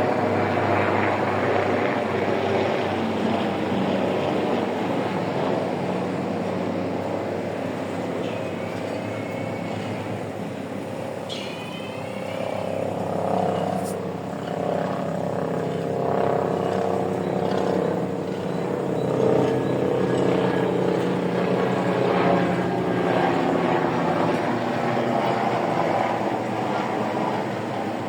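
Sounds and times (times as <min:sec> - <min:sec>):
helicopter flying past: 0:00.0 - 0:28.0.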